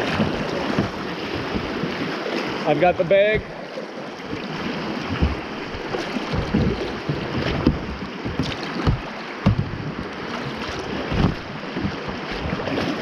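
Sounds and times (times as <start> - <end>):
paddle strokes splashing: 0.0 - 13.0
rushing river water: 0.0 - 13.0.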